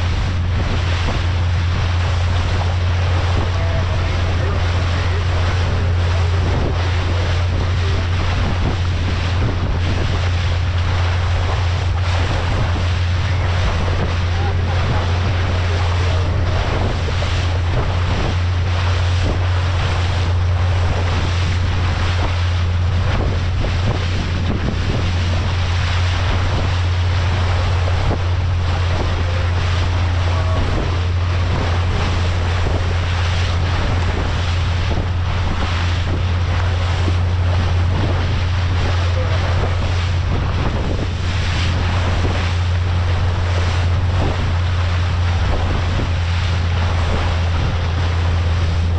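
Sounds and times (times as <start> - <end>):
outboard motor droning: 0.0 - 48.9
water rushing along hull: 0.0 - 48.9
wind buffeting microphone: 0.0 - 48.9.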